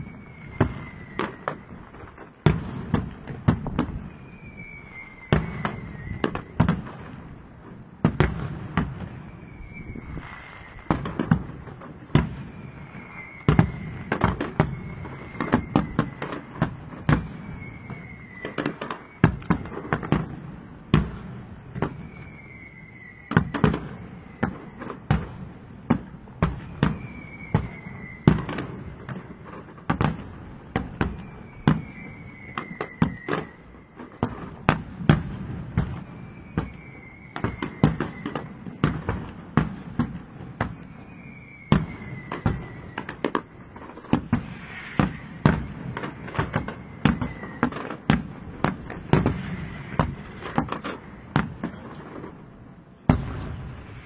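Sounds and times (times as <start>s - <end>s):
falling firework whistle: 0.0s - 54.0s
fireworks bursting: 0.0s - 54.0s.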